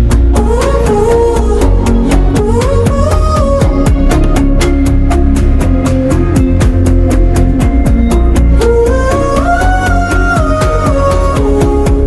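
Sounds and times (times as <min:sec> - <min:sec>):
pop song with drum beat: 0:00.0 - 0:12.0
sung melody: 0:00.0 - 0:12.0.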